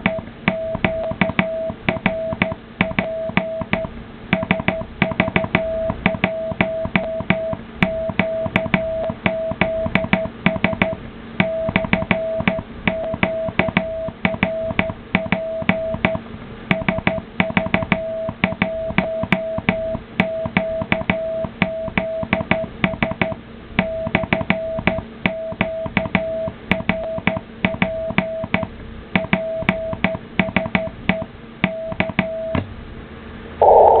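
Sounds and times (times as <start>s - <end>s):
morse code sidetone beeps: 0.0s - 32.6s
faint low hum: 0.0s - 34.0s.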